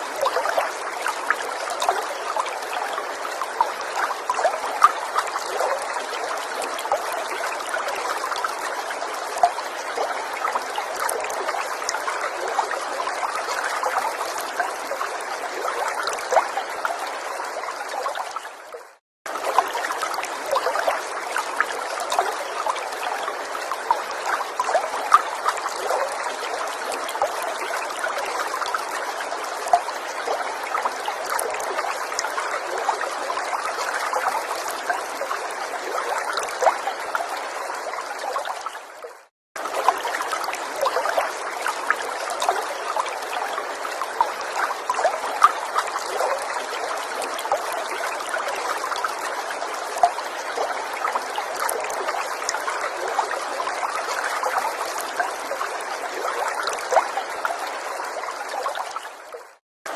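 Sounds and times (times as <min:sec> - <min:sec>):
small stream trickling and babbling: 0:00.0 - 0:59.9.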